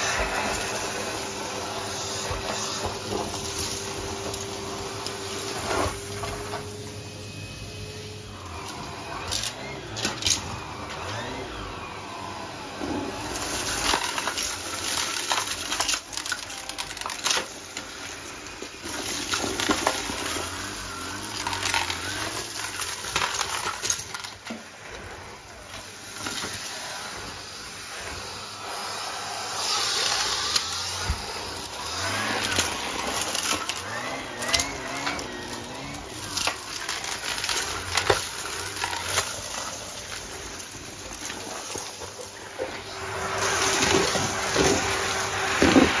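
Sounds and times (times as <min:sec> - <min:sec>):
debris rattling up vacuum hose: 0:00.0 - 0:46.0
vacuum cleaner running: 0:00.0 - 0:46.0.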